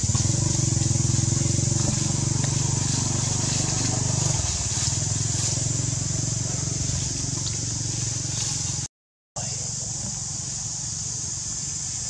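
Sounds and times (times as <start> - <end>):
small engine running: 0.0 - 12.0
steady high hiss: 0.0 - 12.0.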